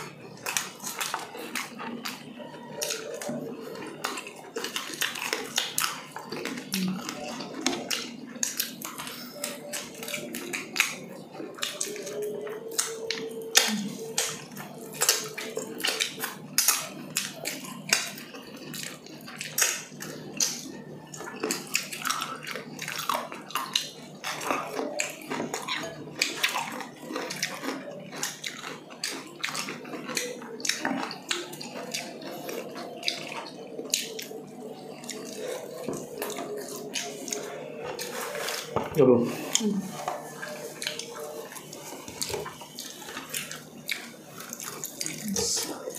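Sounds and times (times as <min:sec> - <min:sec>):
wet chewing and lip smacking: 0:00.0 - 0:45.9.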